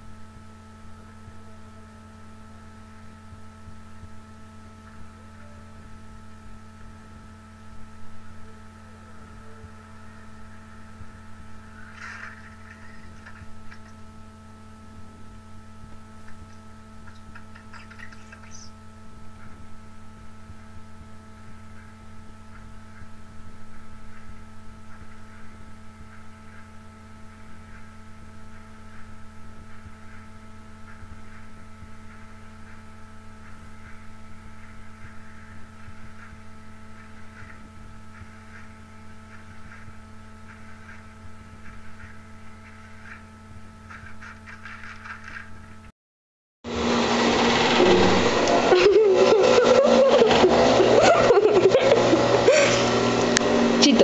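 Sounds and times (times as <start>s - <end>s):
electrical hum: 0.0s - 45.9s, 46.7s - 54.0s.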